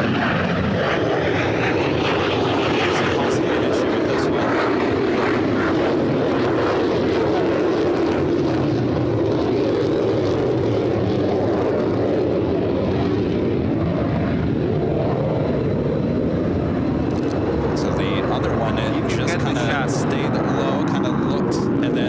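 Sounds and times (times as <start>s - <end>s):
jet engine noise: 0.0s - 22.0s.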